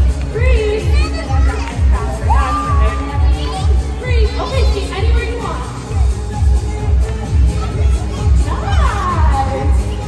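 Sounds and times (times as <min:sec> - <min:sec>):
crowd noise: 0:00.0 - 0:10.0
dance music over loudspeakers: 0:00.0 - 0:10.0.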